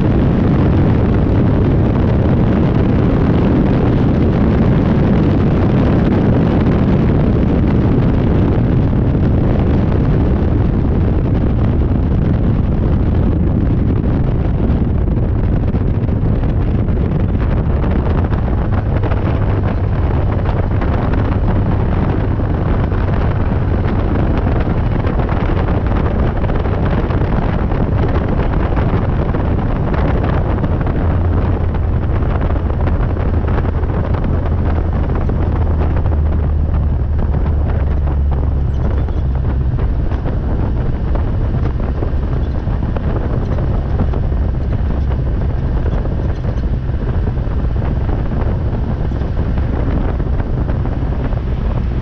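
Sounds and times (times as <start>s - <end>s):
race car engine: 0.0s - 52.0s
wind buffeting microphone: 0.0s - 52.0s.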